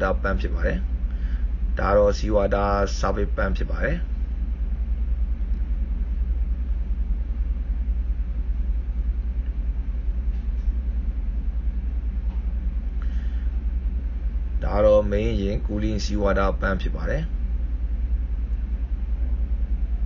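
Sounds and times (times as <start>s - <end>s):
deep pulsing engine rumble: 0.0s - 20.0s.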